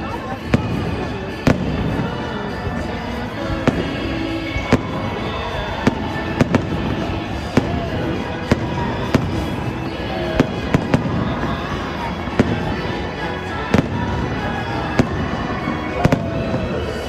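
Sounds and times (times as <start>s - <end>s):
fireworks bangs: 0.0s - 17.0s
music playing: 0.0s - 17.0s.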